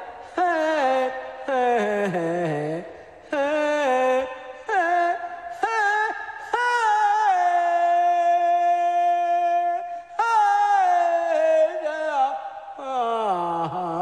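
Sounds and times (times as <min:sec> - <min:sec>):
high singing voice: 0:00.0 - 0:14.0.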